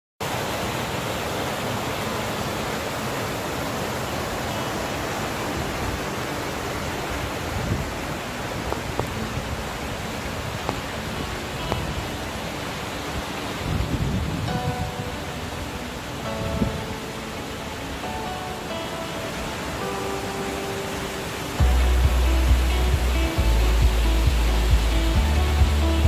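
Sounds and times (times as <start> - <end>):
stream rushing over stones: 0.2 - 26.0.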